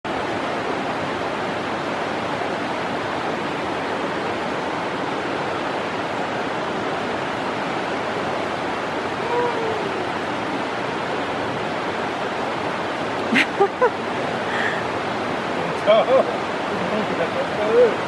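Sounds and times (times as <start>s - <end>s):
river rushing over rocks: 0.1s - 18.0s.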